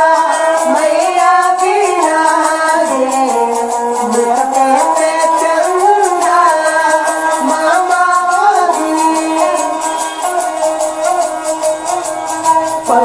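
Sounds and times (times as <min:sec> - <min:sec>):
musical accompaniment: 0:00.0 - 0:13.0
person singing folk melody: 0:00.0 - 0:13.0
rattling percussion beat: 0:00.0 - 0:13.0.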